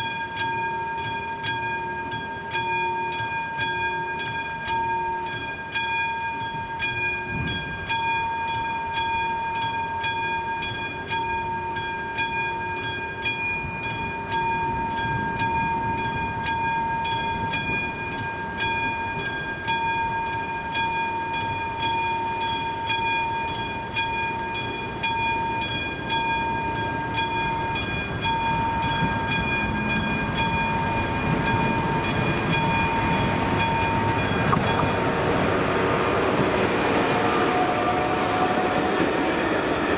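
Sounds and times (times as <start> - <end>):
level crossing warning bell: 0.0 - 39.9
train rumble: 0.0 - 39.9.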